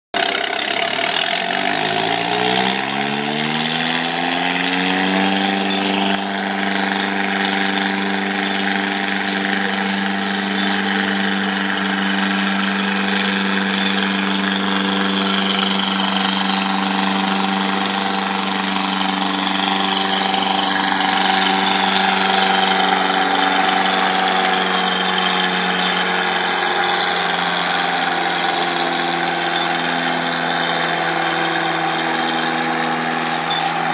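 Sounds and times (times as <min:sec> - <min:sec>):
tractor engine under load: 0:00.1 - 0:33.9.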